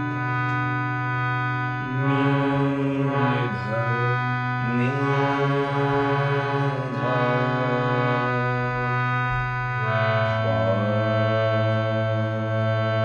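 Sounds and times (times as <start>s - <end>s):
harmonium chords: 0.0s - 13.0s.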